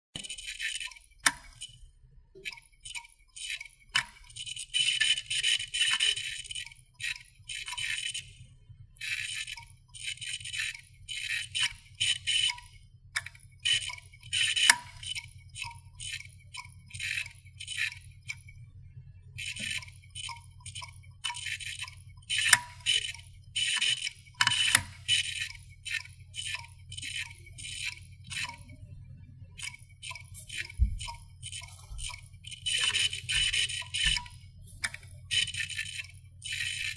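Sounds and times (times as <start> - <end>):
hard drive clicking: 0.2 - 1.8, 2.4 - 8.4, 9.0 - 18.6, 19.4 - 28.8, 29.5 - 36.9
low hum of spinning drive: 0.2 - 36.9.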